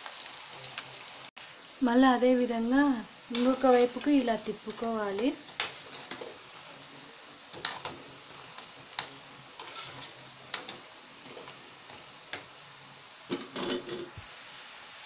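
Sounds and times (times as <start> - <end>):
deep-frying sizzle in oil: 0.0 - 15.0.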